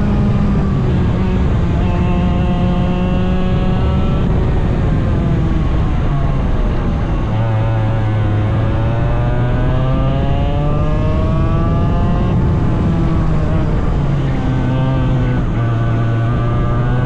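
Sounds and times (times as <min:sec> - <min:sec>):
small racing engine revving: 0:00.0 - 0:17.0.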